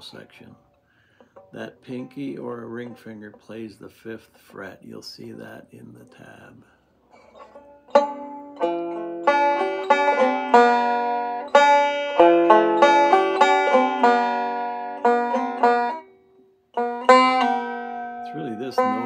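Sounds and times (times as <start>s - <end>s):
banjo finger-picking: 0.0s - 16.1s, 16.7s - 19.0s.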